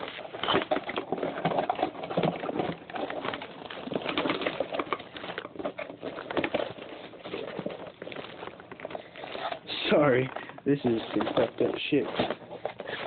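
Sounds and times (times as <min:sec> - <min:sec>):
plastic and cardboard crinkling: 0:00.0 - 0:13.0.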